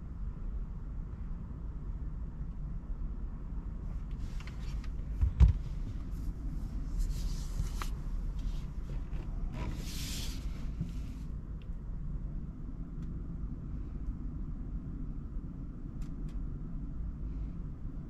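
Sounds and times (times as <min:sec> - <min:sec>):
road and tyre rumble: 0:00.0 - 0:18.0.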